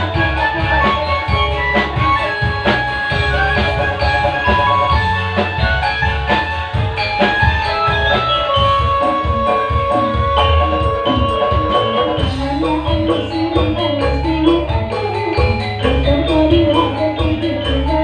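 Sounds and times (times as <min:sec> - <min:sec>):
held high note: 0:00.0 - 0:14.7
band playing: 0:00.0 - 0:18.0
drums keeping a steady beat: 0:00.0 - 0:18.0.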